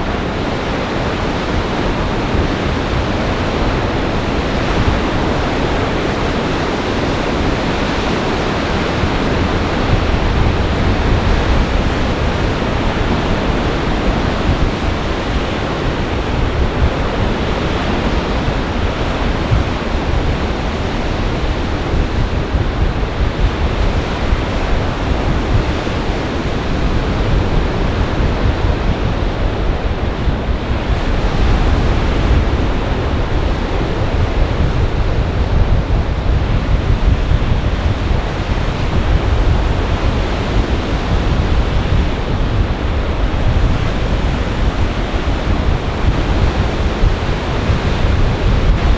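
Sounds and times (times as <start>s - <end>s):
storm surf pounding: 0.0s - 48.9s
wind buffeting microphone: 0.0s - 48.9s.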